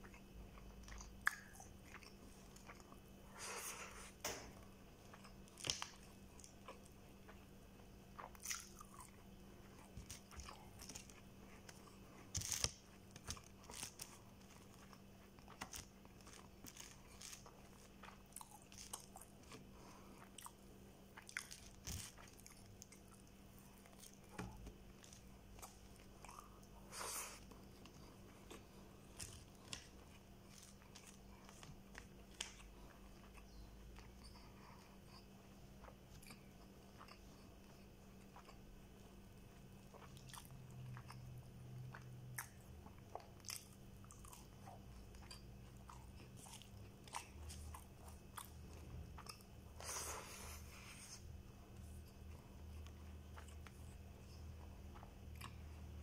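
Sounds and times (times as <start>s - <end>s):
food crunching: 0.0s - 51.2s
person chewing: 0.0s - 56.0s.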